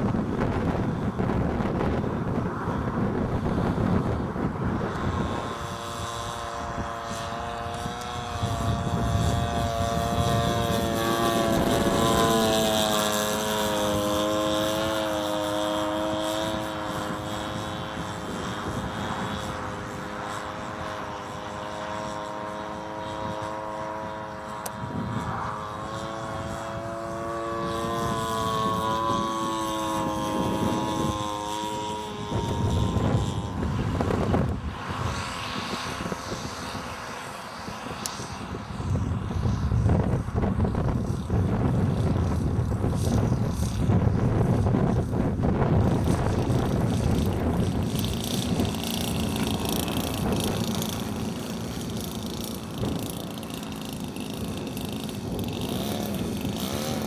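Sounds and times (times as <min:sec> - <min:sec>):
biplane engine overhead: 0:00.0 - 0:57.0
wind rumble on microphone: 0:00.0 - 0:57.0.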